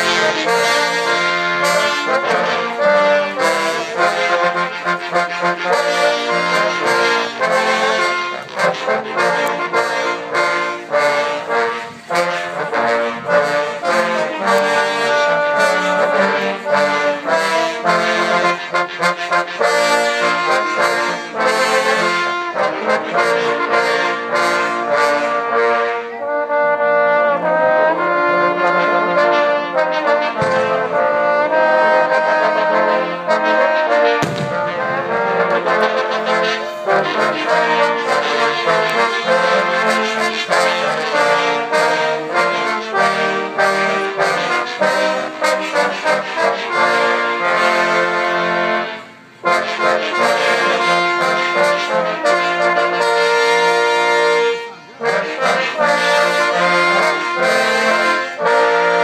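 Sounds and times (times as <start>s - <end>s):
trombone choir playing: 0.0s - 59.0s.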